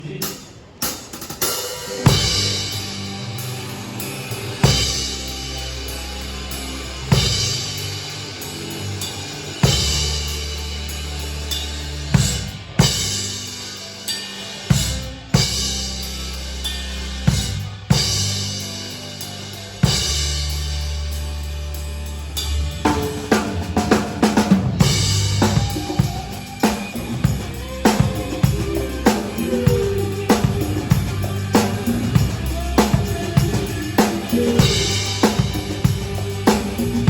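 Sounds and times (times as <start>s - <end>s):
cymbal crashes: 0.9s - 37.0s
bass and keyboard tones: 2.0s - 37.0s.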